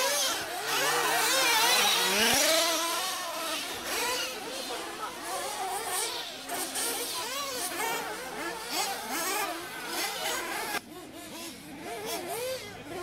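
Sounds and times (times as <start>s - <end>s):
rc buggy engines buzzing: 0.0s - 13.0s.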